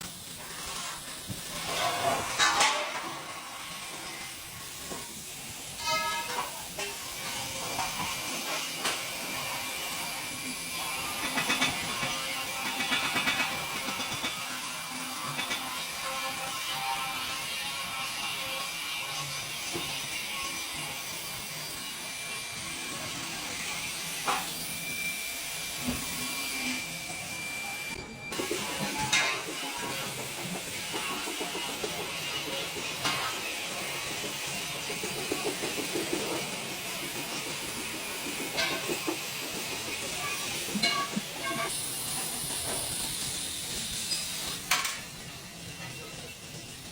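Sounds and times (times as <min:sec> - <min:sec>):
welding arc hissing: 0:00.0 - 0:46.9.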